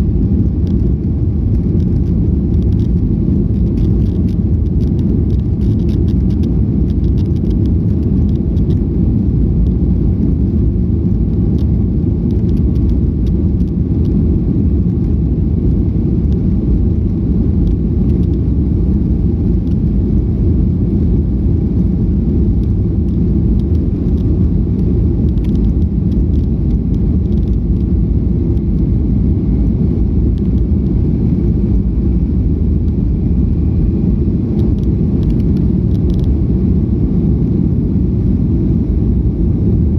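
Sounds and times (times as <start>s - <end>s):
jet airliner rumble: 0.0s - 39.9s.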